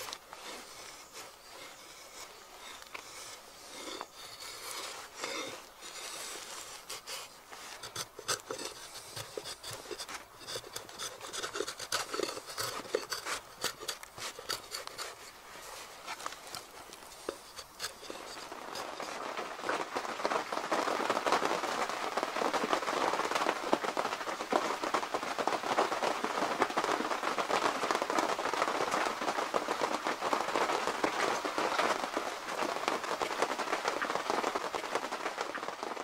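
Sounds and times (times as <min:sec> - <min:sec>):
rain pattering on tent fabric: 0:00.0 - 0:36.0.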